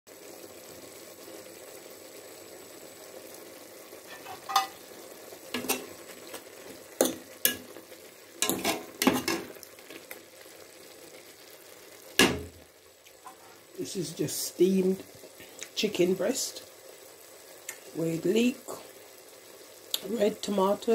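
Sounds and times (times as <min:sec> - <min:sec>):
pot sizzling and bubbling: 0:00.1 - 0:20.9.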